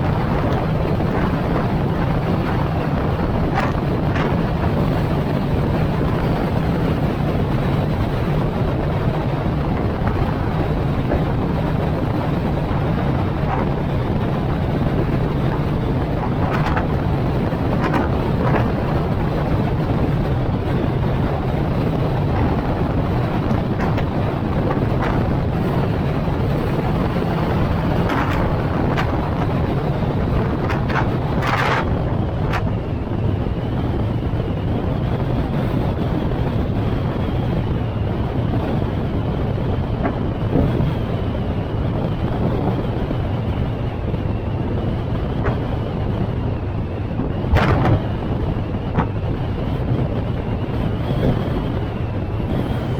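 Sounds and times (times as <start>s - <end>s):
car road and engine noise: 0.0s - 52.9s
wind buffeting microphone: 0.0s - 52.9s.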